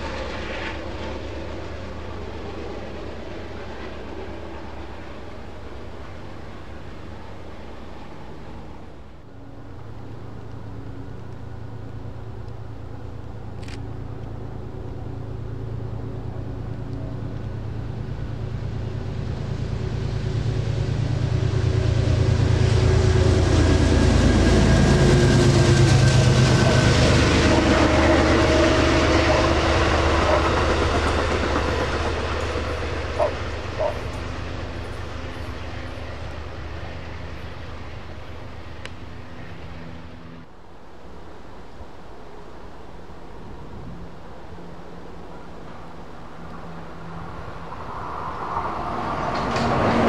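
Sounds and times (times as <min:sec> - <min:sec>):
train passing by: 0:00.0 - 0:50.0.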